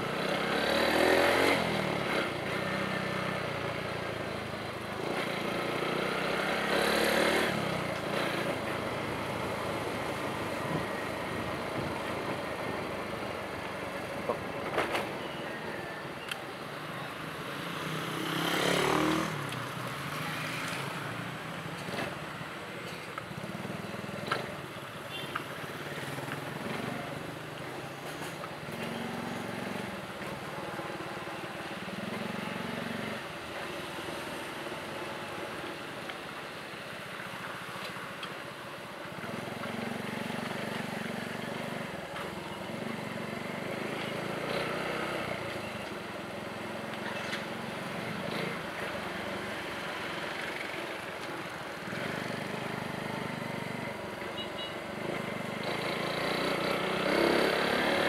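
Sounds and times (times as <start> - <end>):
vehicle engine: 0.0 - 34.8, 39.1 - 58.0
road noise: 0.0 - 58.0.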